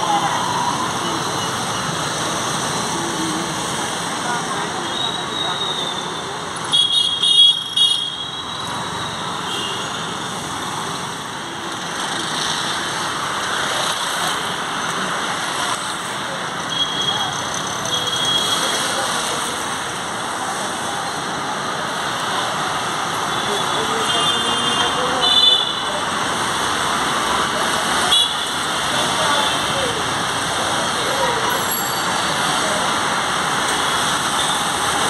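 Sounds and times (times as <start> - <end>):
road traffic hum: 0.0 - 35.0.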